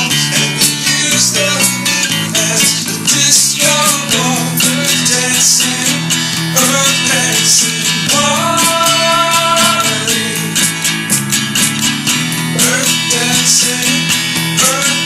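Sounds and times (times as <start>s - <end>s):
steady drum beat: 0.0s - 15.0s
strummed guitar: 0.0s - 15.0s.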